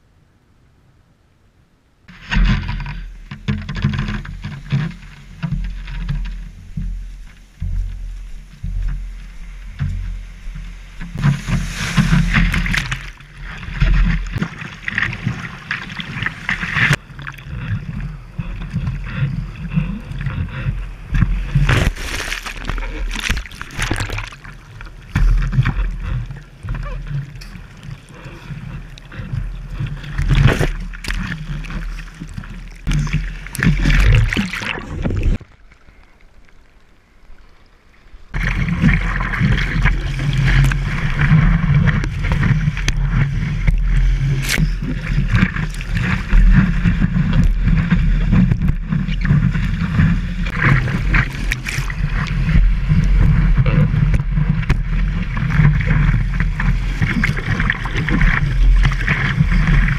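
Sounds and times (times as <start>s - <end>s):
surf splashing: 2.1s - 59.9s
surfboard paddling through whitewater: 2.1s - 59.9s.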